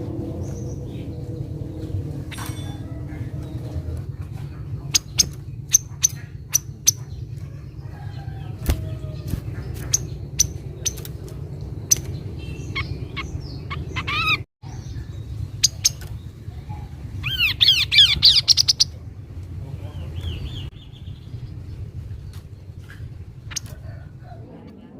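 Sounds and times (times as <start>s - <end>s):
steady low rumble: 0.0s - 24.9s.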